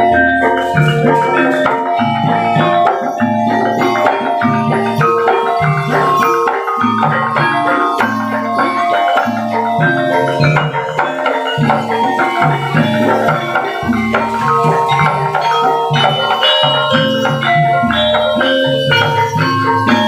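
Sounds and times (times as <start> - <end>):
metallophone notes: 0.0 - 20.0.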